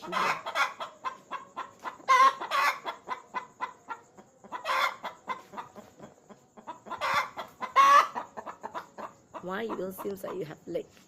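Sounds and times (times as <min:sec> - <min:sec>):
hen cackling: 0:00.0 - 0:10.5
hen clucking: 0:00.0 - 0:10.8.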